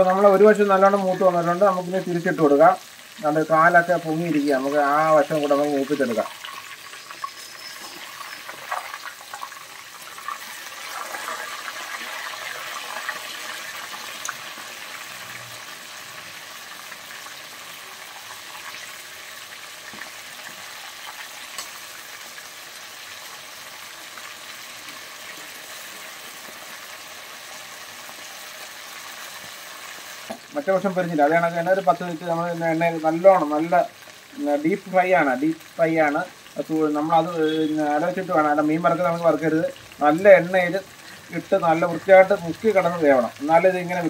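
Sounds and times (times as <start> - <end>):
food sizzling in hot oil: 0.0 - 44.0.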